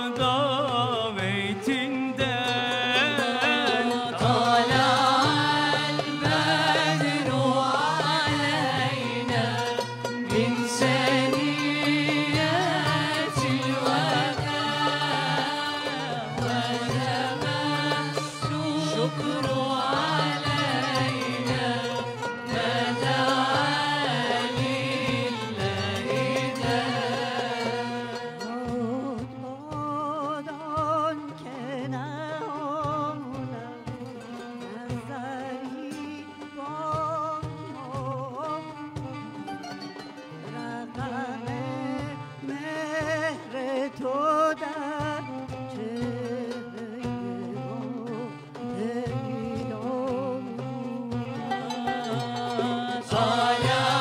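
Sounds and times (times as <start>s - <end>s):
devotional chanting with vibrato: 0.0s - 54.0s
low musical accompaniment: 0.0s - 54.0s.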